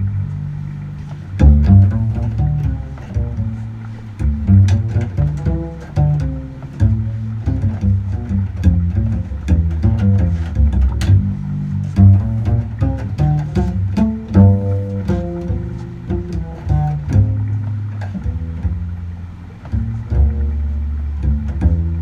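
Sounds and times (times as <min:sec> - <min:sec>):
double bass plucked: 0:00.0 - 0:22.0.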